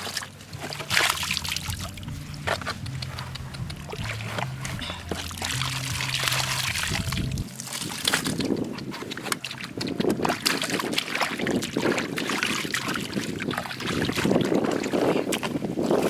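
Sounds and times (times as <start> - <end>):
shallow water splashing: 0.0 - 16.0.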